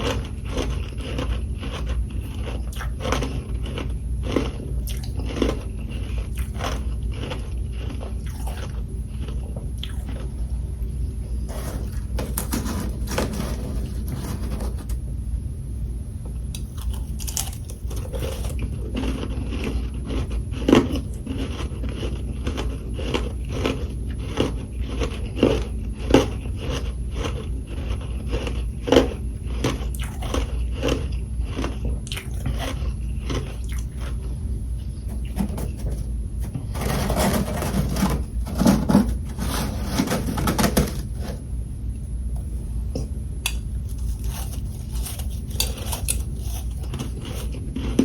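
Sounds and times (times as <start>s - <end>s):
crunchy chewing: 0.0s - 15.0s, 16.5s - 41.5s, 43.5s - 48.0s
steady low hum: 0.0s - 48.0s.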